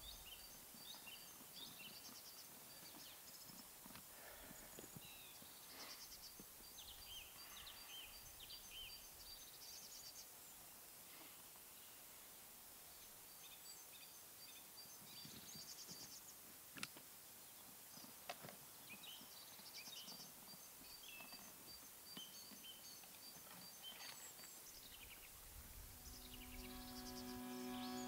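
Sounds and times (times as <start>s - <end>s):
faint songbirds chirping: 0.0s - 16.6s, 17.2s - 28.0s.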